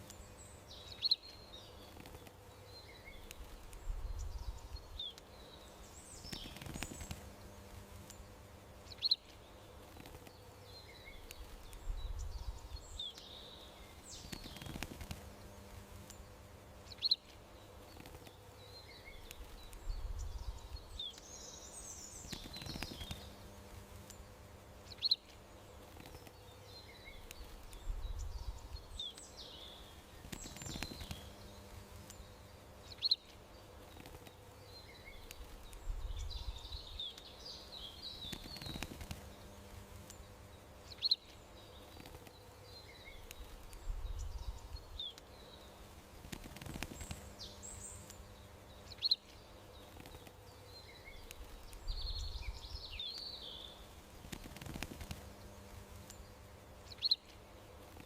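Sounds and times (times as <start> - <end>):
small birds chirping: 0.0 - 58.0
faint low rumble: 1.5 - 57.9.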